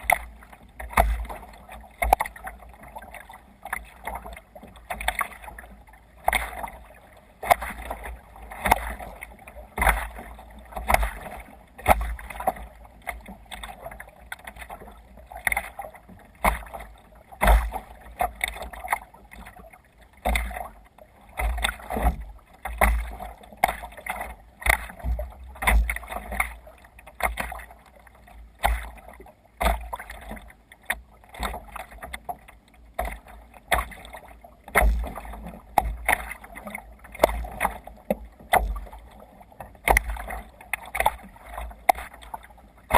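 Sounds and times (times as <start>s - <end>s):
water splashing around kayak: 0.0s - 42.9s.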